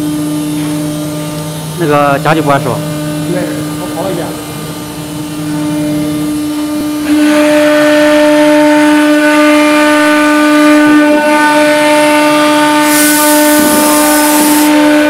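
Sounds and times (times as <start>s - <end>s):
router spindle whine: 0.0s - 9.4s, 10.5s - 15.0s.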